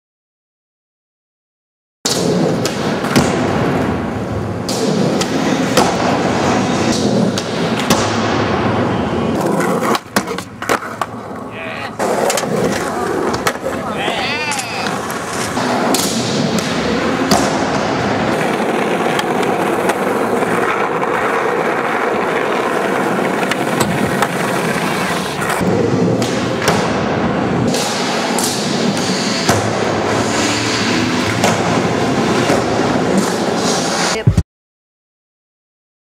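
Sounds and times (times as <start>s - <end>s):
skateboard wheels rolling: 2.1s - 34.2s.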